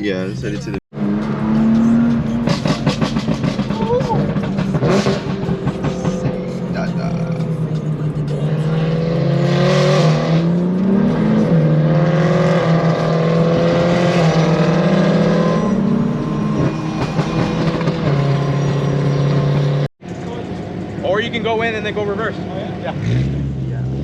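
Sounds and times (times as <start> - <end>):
car engine and exhaust droning: 0.0 - 24.0.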